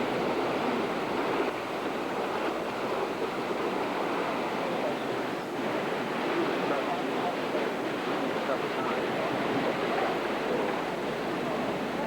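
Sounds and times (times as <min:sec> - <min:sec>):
hurricane wind: 0:00.0 - 0:12.0.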